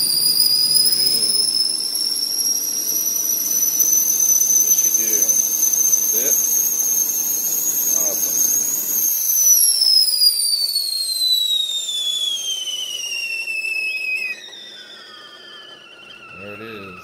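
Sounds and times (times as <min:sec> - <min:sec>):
kettle whistling: 0:00.0 - 0:17.0.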